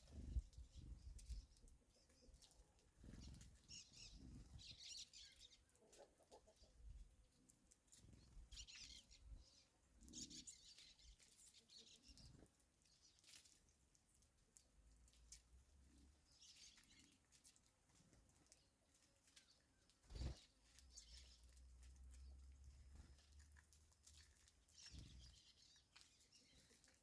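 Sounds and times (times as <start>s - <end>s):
faint bird chirping: 0.0s - 13.9s, 15.1s - 27.0s.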